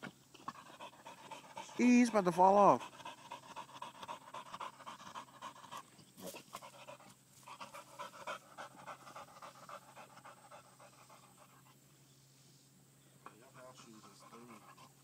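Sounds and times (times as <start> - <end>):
dog panting: 0.3 - 11.9, 13.2 - 15.0.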